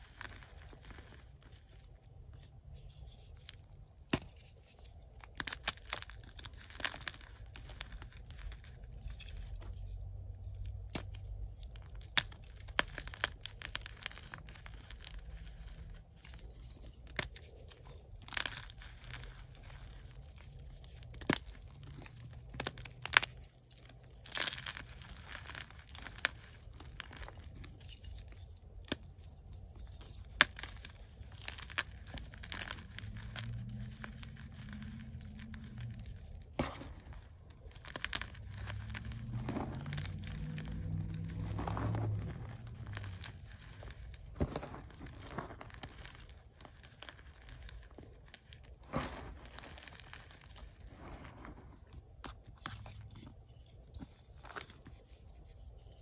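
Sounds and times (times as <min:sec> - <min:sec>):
chalk crunching and snapping: 0:00.0 - 0:56.0
powdery crumbling rustle: 0:00.0 - 0:56.0.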